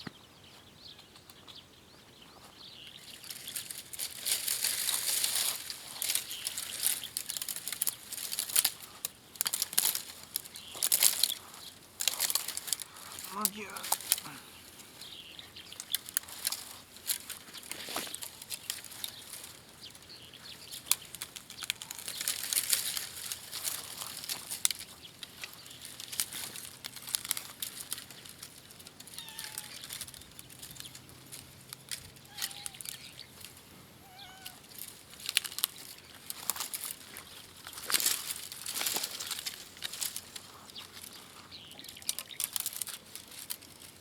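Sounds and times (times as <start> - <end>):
rustling: 2.9 - 44.0
twigs snapping: 3.1 - 33.6, 34.4 - 44.0.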